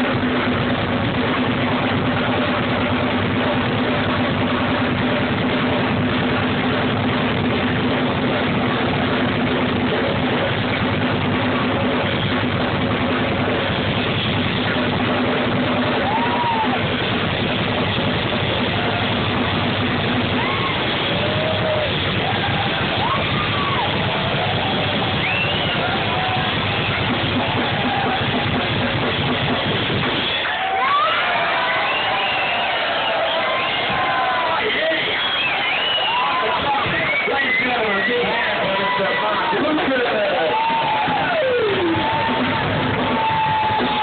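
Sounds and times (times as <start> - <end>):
live rock band playing loud: 0.0 - 44.0.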